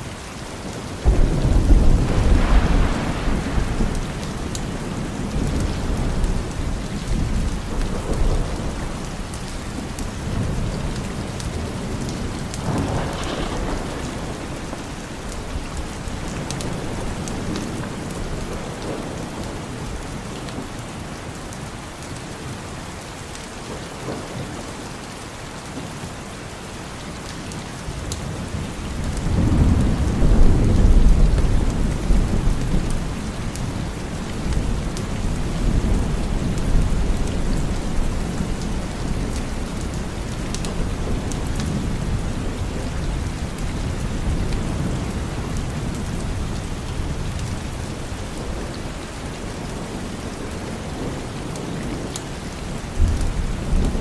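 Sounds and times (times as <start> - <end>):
heavy rain: 0.0 - 54.0
rolling thunder: 1.0 - 20.4, 28.5 - 52.1, 52.7 - 54.0.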